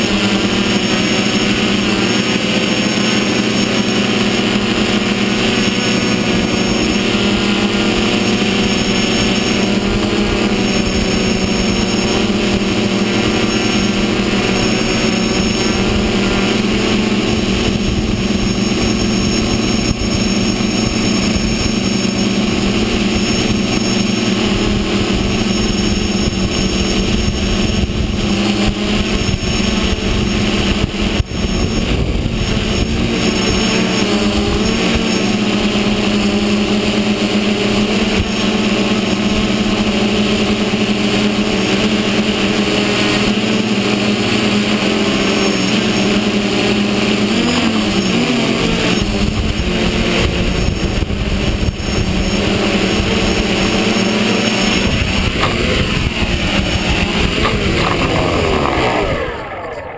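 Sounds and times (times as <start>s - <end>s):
drone propellers whirring: 0.0s - 59.9s.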